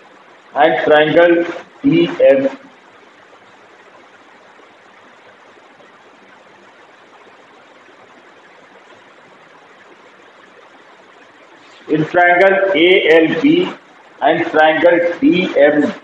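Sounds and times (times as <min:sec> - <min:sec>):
faint room noise hiss: 0:00.0 - 0:16.0.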